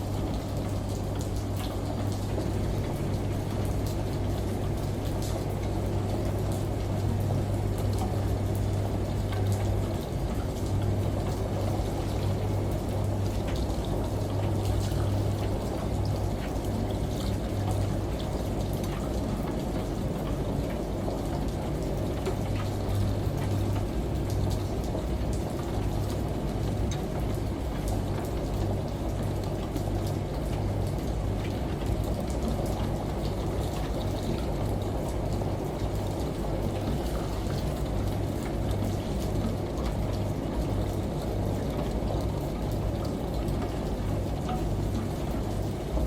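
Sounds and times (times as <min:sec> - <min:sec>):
shower water and rain rushing: 0:00.0 - 0:46.0
washing machine humming: 0:00.0 - 0:46.0.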